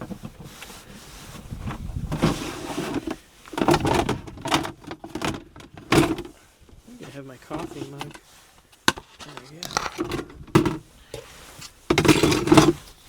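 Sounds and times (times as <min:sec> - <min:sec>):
household items scraping and clattering: 0:00.0 - 0:13.0.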